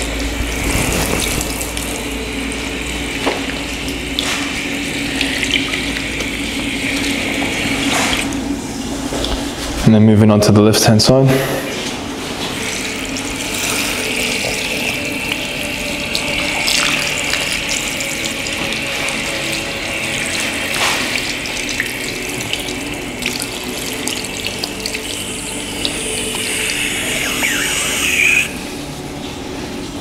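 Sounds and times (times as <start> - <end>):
running water splashing: 0.0 - 9.8, 11.4 - 28.9.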